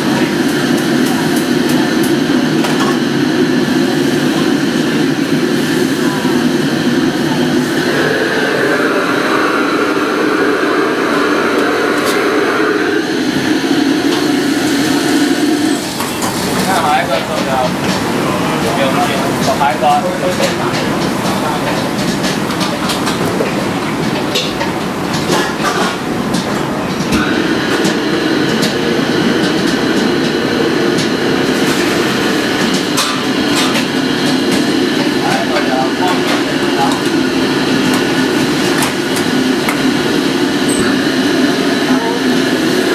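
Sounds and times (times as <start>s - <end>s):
gas burners roaring: 0.0s - 42.9s.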